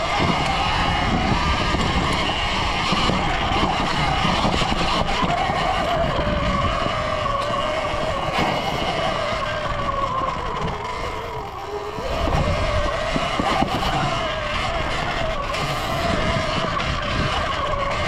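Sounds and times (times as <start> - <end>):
electric dirt bike motor whining: 0.0 - 18.0
rumbling wind: 0.0 - 18.0
trail noise: 0.0 - 18.0.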